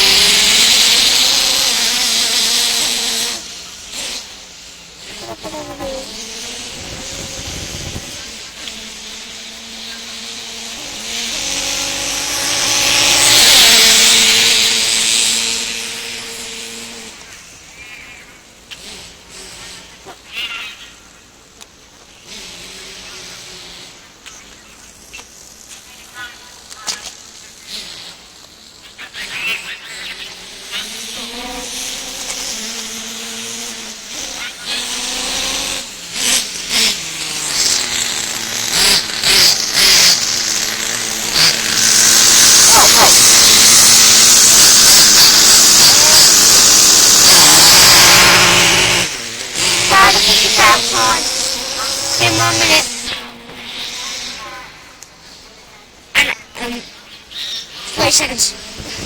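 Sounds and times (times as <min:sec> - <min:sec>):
small nitro engine revving: 0:00.0 - 0:21.2, 0:22.1 - 0:55.4, 0:56.1 - 0:59.0.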